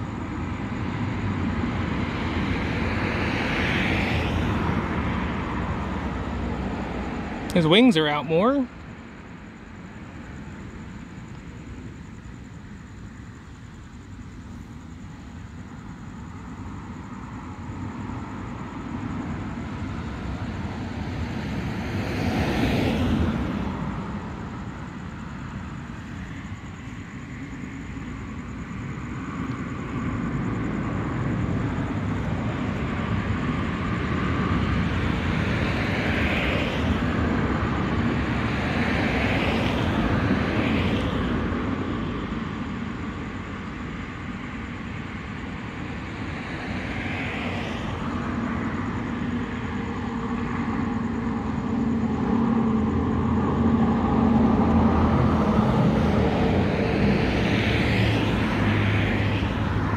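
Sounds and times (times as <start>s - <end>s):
cars passing on road: 0.0s - 59.9s.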